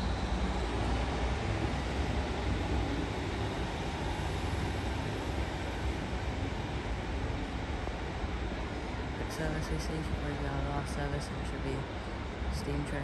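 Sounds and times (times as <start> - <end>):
train diesel engines rumbling: 0.0 - 13.0.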